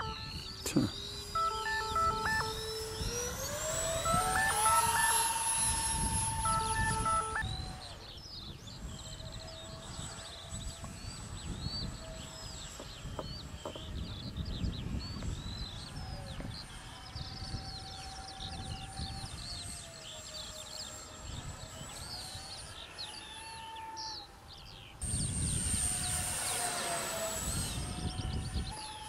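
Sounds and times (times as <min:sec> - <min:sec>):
birds chirping: 0:00.0 - 0:29.0
model jet fan whining: 0:00.0 - 0:29.0
wind rumble on microphone: 0:01.9 - 0:22.6, 0:24.5 - 0:29.0.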